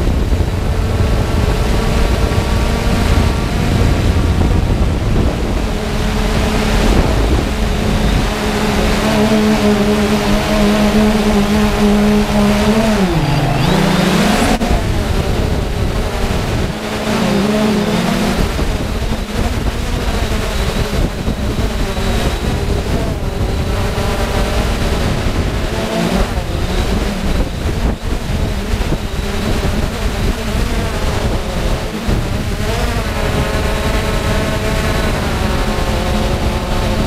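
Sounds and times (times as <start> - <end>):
drone motors buzzing: 0.0 - 37.0
wind noise: 0.0 - 37.0.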